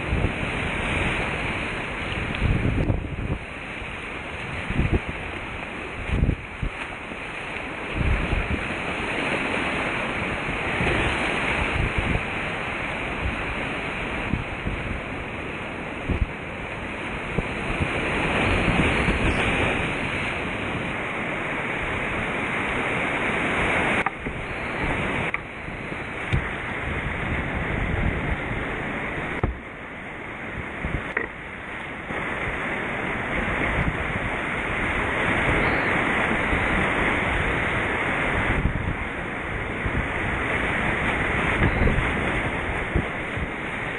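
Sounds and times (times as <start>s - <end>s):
whitewater rapids rushing: 0.0s - 43.9s.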